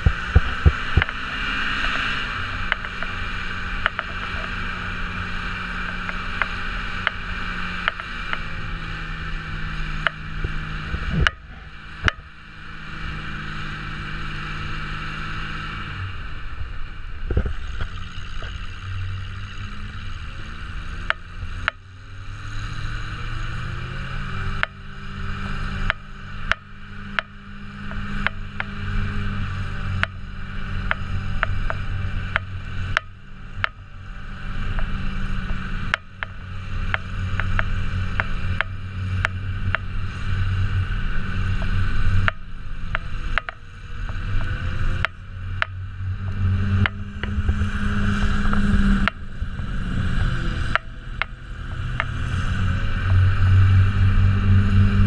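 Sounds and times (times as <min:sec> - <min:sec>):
snowcat engine running: 0:00.0 - 0:55.0.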